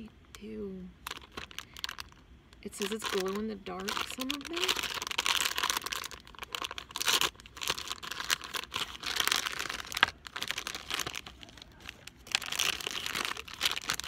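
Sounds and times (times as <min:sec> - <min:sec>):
plastic packaging crinkling: 0:01.0 - 0:14.0.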